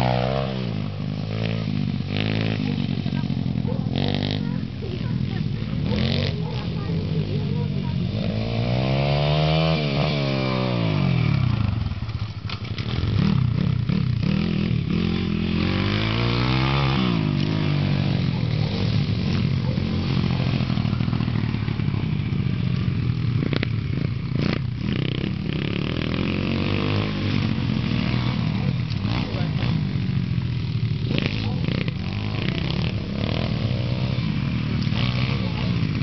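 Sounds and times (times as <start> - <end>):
pit bike engine revving: 0.0 - 36.0.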